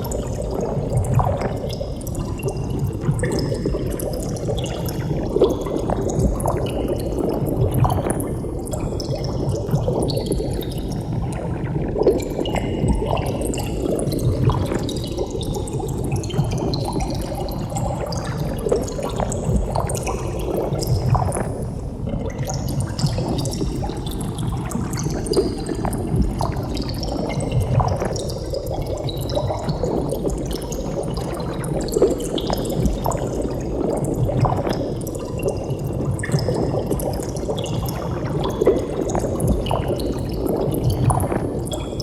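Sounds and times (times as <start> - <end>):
bubbles streaming through water: 0.0 - 42.0.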